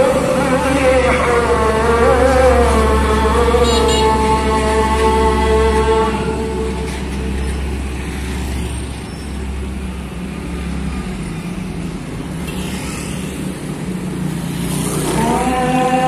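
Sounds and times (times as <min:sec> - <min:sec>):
motorbikes passing: 0:00.0 - 0:16.0
truck diesel engine hum: 0:00.0 - 0:16.0.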